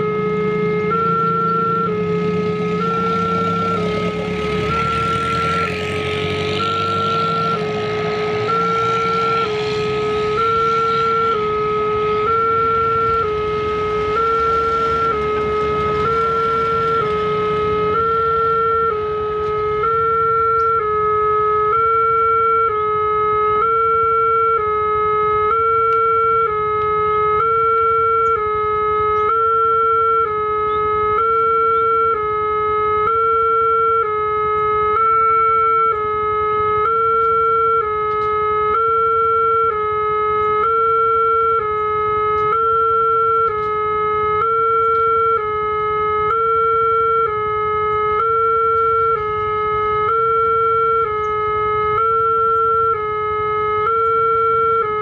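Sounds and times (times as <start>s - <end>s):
level crossing two-tone alarm: 0.0s - 55.0s.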